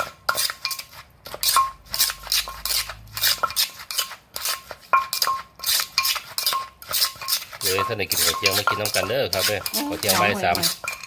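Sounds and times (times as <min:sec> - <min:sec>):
pestle pounding in mortar: 0:00.0 - 0:11.0
spoon scraping and clinking: 0:00.0 - 0:11.0.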